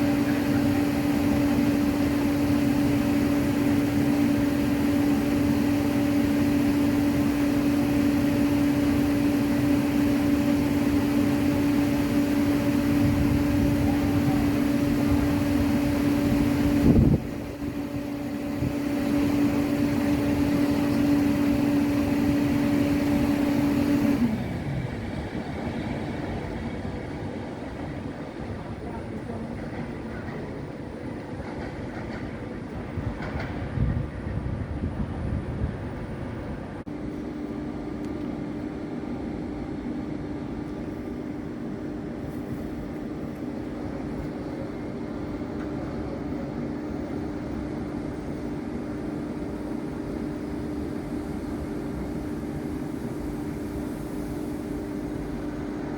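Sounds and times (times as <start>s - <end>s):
electric train hum: 0.0s - 55.9s.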